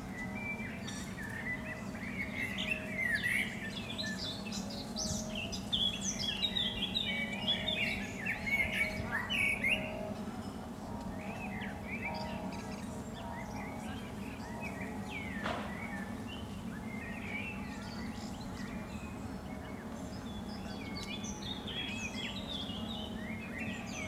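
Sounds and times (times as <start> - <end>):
songbirds chirping and singing: 0.0 - 24.0.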